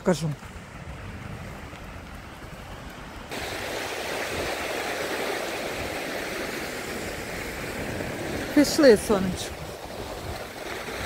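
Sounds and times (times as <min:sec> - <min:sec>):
surf washing onto sandy beach: 0:00.6 - 0:11.0.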